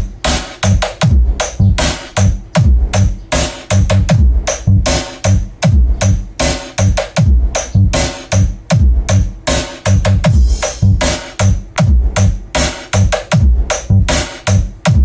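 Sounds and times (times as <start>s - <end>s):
loud electronic dance music: 0.0s - 15.0s.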